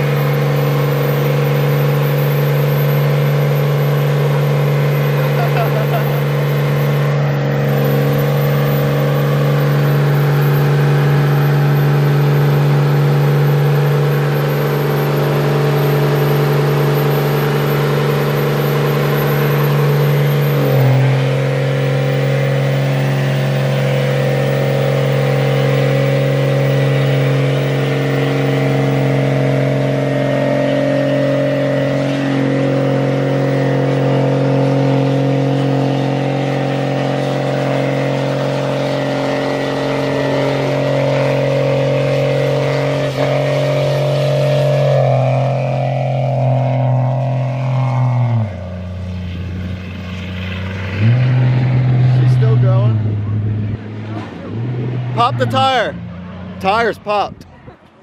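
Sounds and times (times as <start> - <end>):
tire spinning on pavement: 0.0 - 56.7
diesel engine revving: 0.0 - 58.0.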